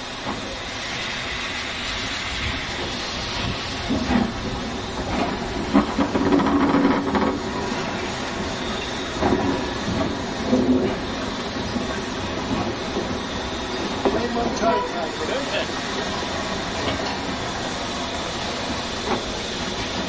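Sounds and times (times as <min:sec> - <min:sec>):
steam hissing: 0:00.0 - 0:20.0
locomotive wheels clanking: 0:03.7 - 0:20.0.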